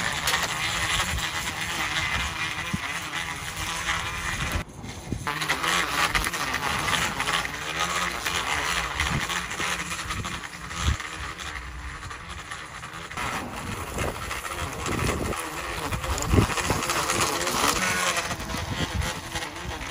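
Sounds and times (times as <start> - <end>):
string trimmer cutting grass: 0.0 - 19.9.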